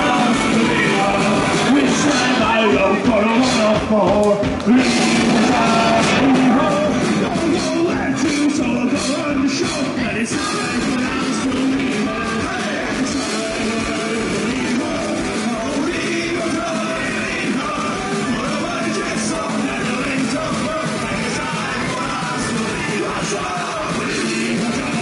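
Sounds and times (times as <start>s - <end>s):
person singing: 0.0s - 25.0s
rock band playing: 0.0s - 25.0s.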